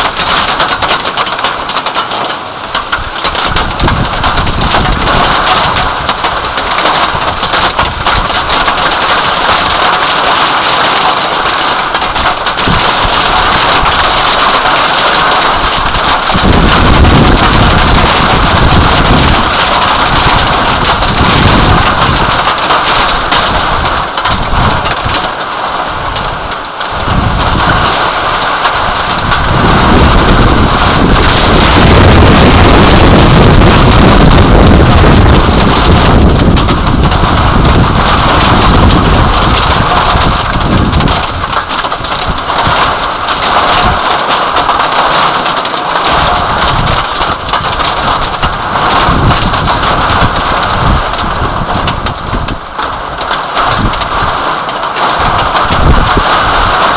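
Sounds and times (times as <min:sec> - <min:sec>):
heavy rain pouring: 0:00.0 - 0:56.9
low rumbling wind or thunder: 0:02.8 - 0:25.3, 0:27.0 - 0:56.9.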